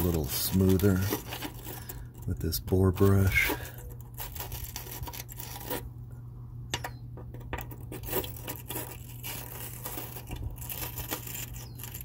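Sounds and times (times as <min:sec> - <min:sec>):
brush scratching in bolt hole: 0:00.0 - 0:05.9, 0:07.5 - 0:12.0
steady low hum: 0:00.0 - 0:12.0.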